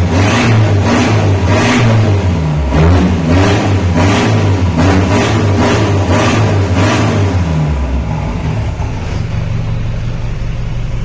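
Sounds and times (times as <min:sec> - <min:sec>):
diesel engine revving and idling: 0:00.0 - 0:11.0.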